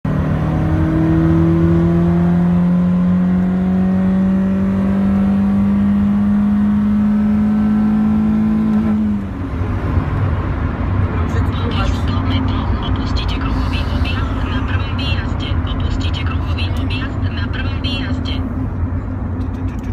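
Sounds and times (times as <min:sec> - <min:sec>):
car engine accelerating: 0:00.1 - 0:19.9.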